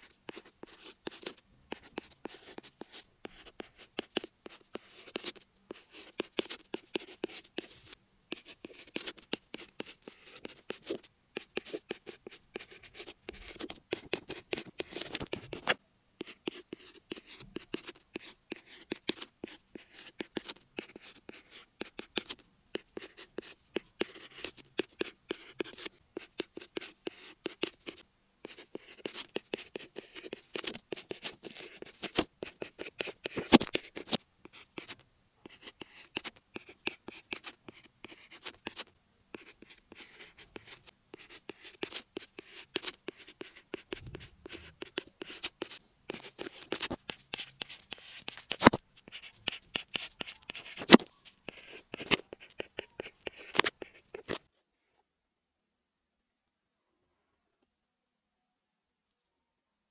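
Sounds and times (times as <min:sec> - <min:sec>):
stylus tapping and scratching on screen: 0:00.0 - 0:54.5.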